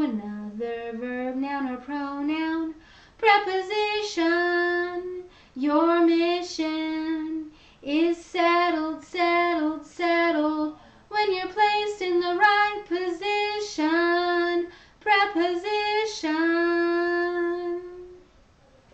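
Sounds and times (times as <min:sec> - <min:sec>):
woman singing unaccompanied: 0:00.0 - 0:18.2.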